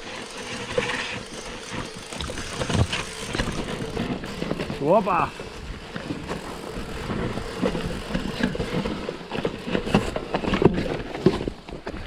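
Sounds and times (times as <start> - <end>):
bike frame rattling: 0.0 - 11.0
bike tyres rolling: 0.0 - 12.0.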